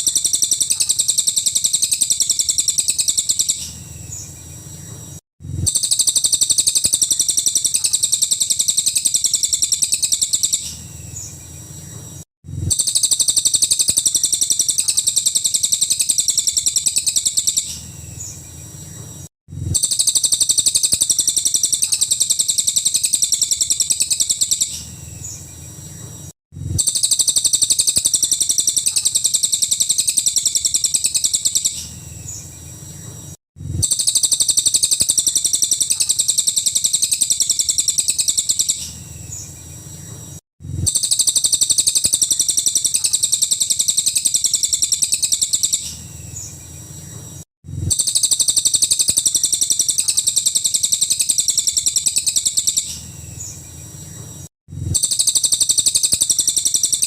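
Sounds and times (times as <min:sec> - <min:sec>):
bird rattling song: 0:00.0 - 0:26.2, 0:26.8 - 0:54.4, 0:55.0 - 0:57.0.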